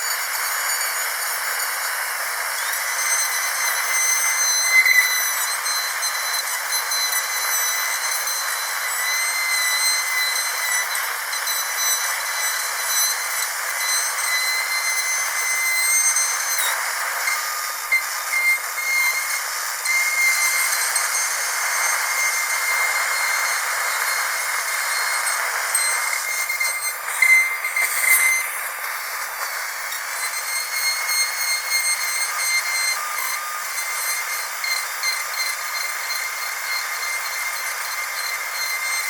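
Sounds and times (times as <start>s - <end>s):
dentist's drill whining: 0.0s - 39.0s.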